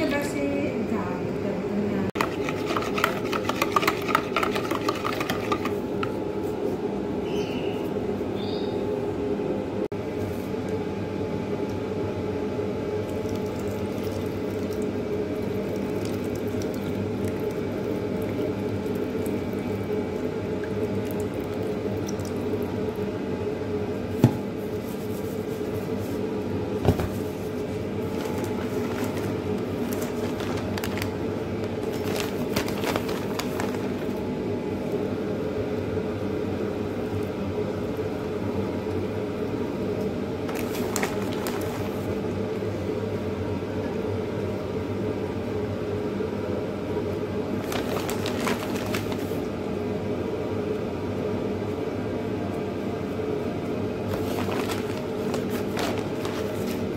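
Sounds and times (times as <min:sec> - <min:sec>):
low machine hum: 0:00.0 - 0:56.9.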